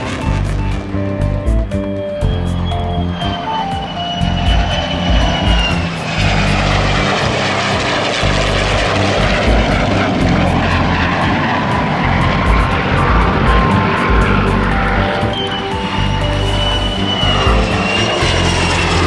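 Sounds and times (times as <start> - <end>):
background music: 0.0 - 19.0
high falling whine: 0.0 - 19.0
plane flying past: 0.0 - 19.0.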